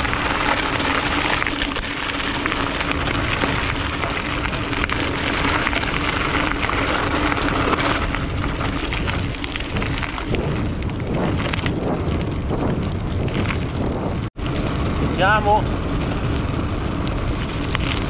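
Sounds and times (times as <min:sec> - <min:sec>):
bike tyres crunching on gravel: 0:00.0 - 0:18.0.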